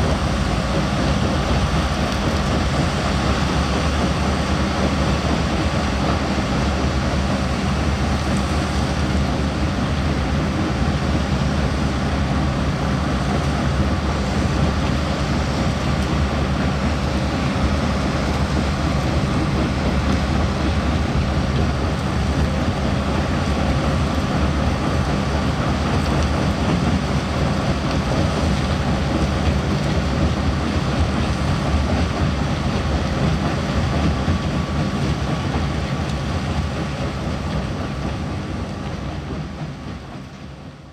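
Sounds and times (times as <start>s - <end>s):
diesel engine running: 0.0s - 40.1s.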